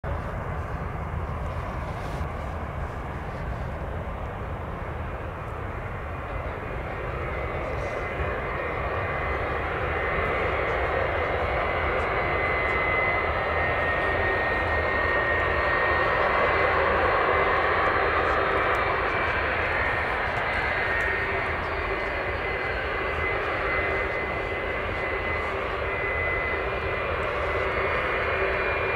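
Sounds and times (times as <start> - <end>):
jet engine rumble: 0.0 - 28.9
high jet whine: 0.1 - 28.9.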